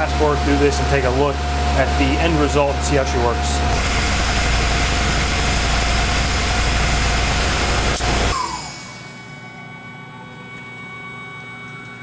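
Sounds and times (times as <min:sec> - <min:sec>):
spindle hum: 0:00.0 - 0:12.0
spindle winding down whine: 0:00.0 - 0:12.0.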